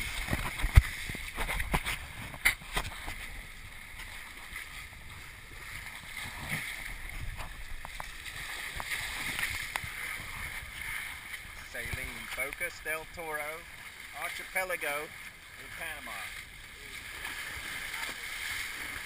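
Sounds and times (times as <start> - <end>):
water splashing along hull: 0.0 - 19.0.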